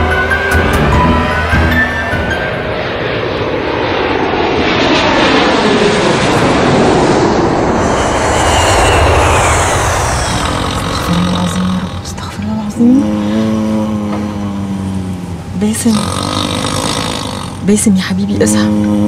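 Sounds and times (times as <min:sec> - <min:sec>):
jet airliner passing overhead: 0:00.0 - 0:15.9.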